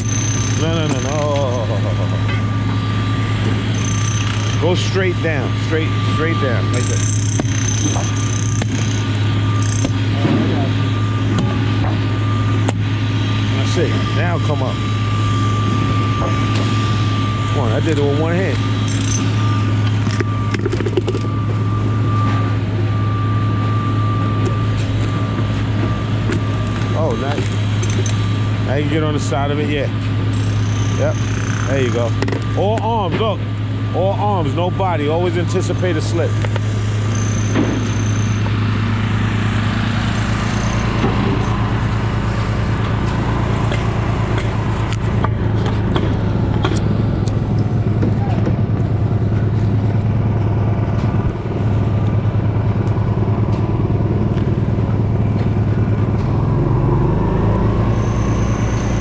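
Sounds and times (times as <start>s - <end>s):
heavy machinery drone: 0.0s - 59.0s
thin steady whine: 0.0s - 59.0s.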